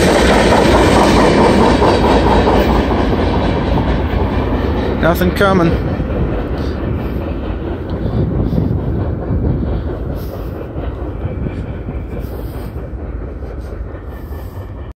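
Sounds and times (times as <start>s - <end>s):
freight train cars rumbling on rails: 0.0s - 15.0s.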